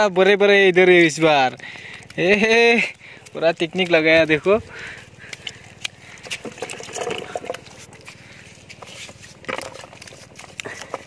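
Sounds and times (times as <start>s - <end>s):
water movement: 0.0s - 11.0s
plastic clicks and crinkles: 0.4s - 11.0s.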